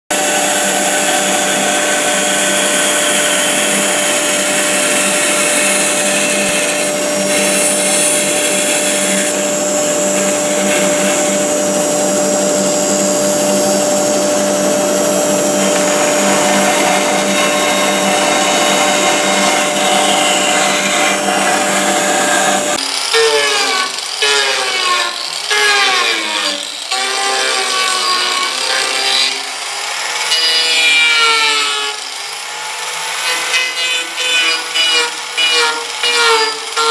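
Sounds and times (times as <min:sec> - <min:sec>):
angle grinder on wood: 0:00.1 - 0:36.9
bandsaw cutting wood: 0:00.1 - 0:36.9.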